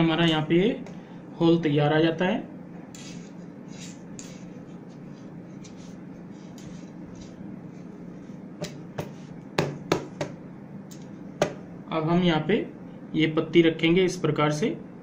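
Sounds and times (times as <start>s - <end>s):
steady low room hum: 0.0s - 15.0s.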